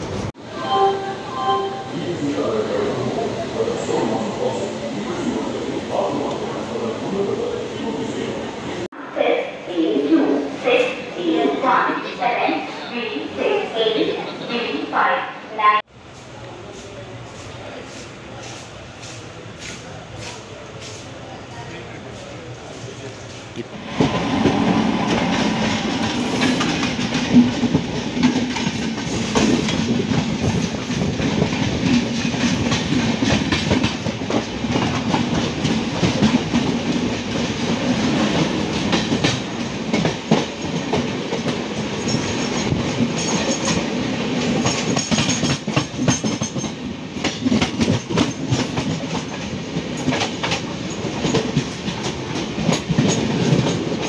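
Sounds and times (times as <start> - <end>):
train rumble: 0.0 - 9.2, 15.7 - 54.0
train passing close by: 0.0 - 54.0.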